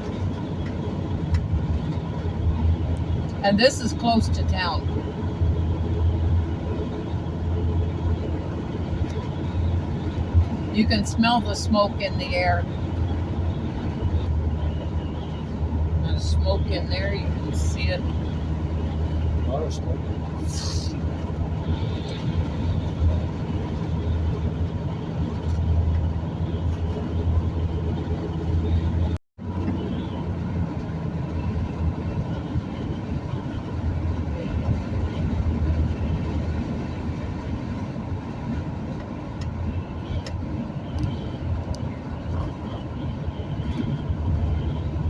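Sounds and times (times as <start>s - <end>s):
engine drone: 0.0s - 45.0s
tyre and road rumble: 0.0s - 45.0s.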